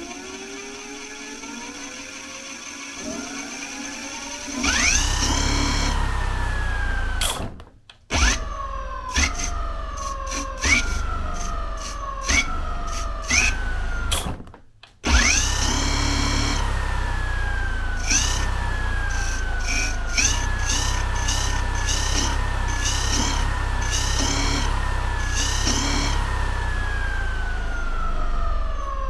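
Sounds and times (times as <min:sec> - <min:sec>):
electric scooter motor whining: 0:00.0 - 0:07.2, 0:08.2 - 0:14.3, 0:15.0 - 0:29.0.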